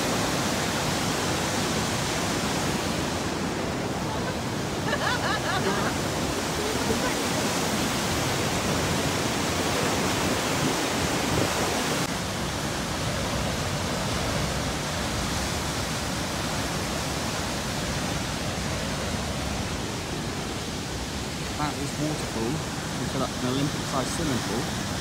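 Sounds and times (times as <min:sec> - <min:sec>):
waterfall and rapids rushing: 0:00.0 - 0:25.0.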